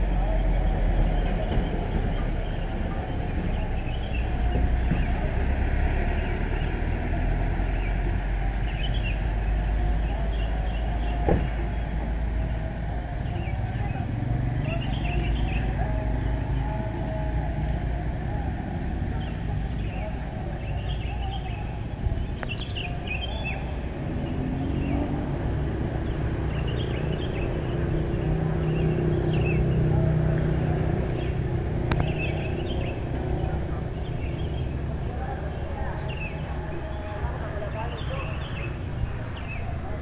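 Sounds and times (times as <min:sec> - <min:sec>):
road traffic rumble: 0:00.0 - 0:40.0
small birds chirping: 0:00.0 - 0:40.0.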